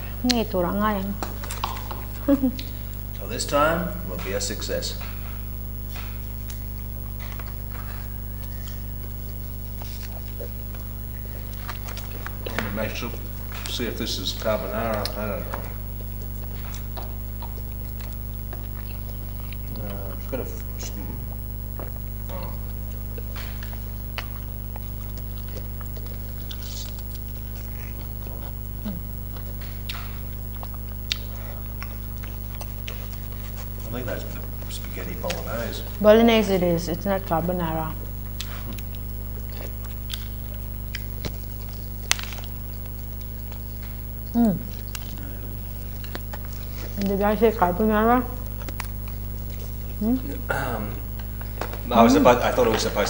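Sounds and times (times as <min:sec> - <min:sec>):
steady low hum: 0:00.0 - 0:53.0
person chewing food: 0:01.2 - 0:03.2, 0:05.0 - 0:13.8, 0:14.4 - 0:36.0, 0:38.0 - 0:47.2, 0:48.4 - 0:51.9.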